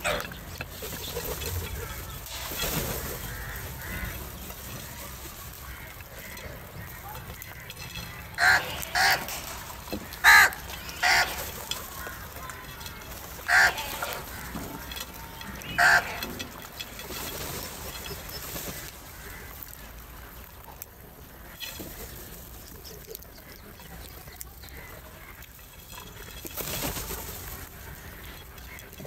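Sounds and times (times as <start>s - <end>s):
crows cawing: 0.0s - 0.7s, 1.3s - 20.5s, 23.3s - 29.0s.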